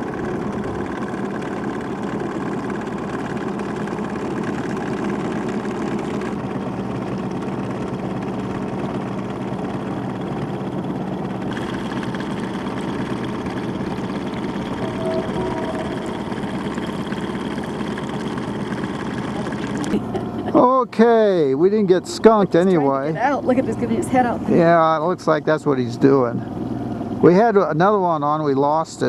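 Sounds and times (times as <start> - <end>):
outboard motor humming: 0.0 - 29.0.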